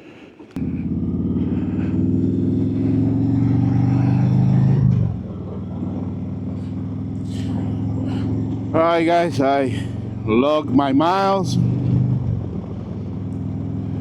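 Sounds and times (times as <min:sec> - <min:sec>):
motorcycle engine starting and idling: 0:00.6 - 0:14.0.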